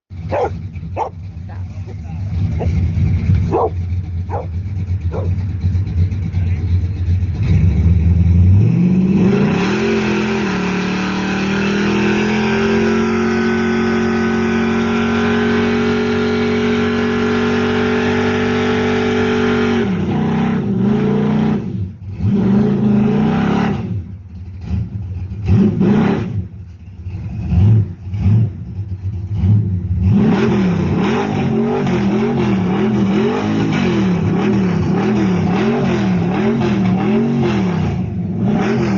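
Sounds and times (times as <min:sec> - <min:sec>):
car engine revving: 0:00.1 - 0:38.9.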